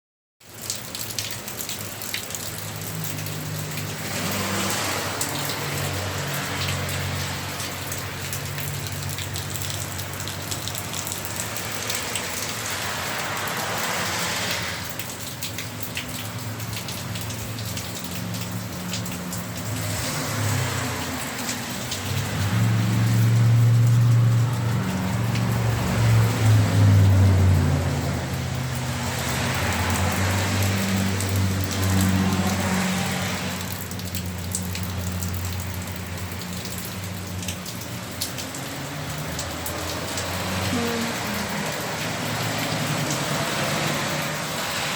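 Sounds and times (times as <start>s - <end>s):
steady rain falling: 0.4s - 44.9s.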